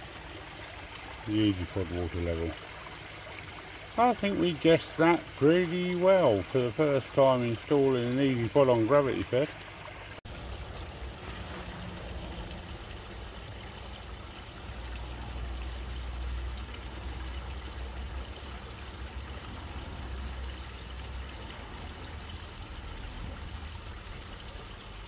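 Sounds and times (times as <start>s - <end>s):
water flowing and trickling: 0.0s - 25.0s.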